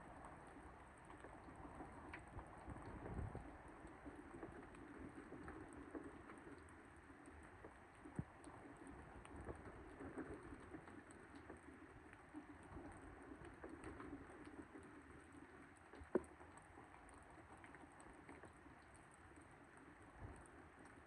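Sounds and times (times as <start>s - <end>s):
faint steady rain: 0.0s - 21.0s.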